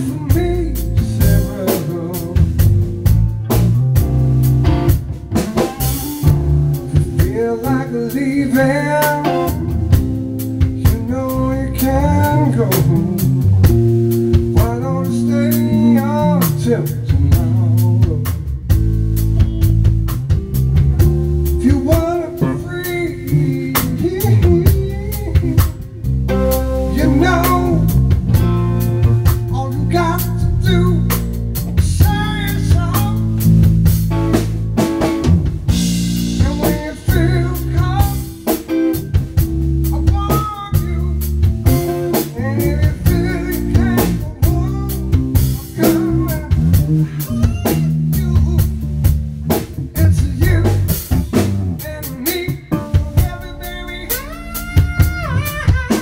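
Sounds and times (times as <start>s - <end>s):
man singing: 0.0s - 2.9s, 6.7s - 18.7s, 21.4s - 28.4s, 29.2s - 33.6s, 36.2s - 38.7s, 39.8s - 56.0s
drum kit with rimshots: 0.0s - 56.0s
electric guitar: 0.0s - 56.0s.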